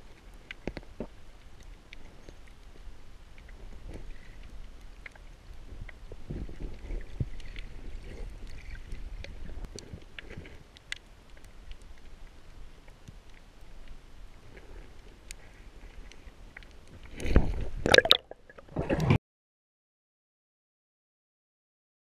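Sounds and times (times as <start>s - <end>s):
underwater water rumble: 0.0s - 19.2s.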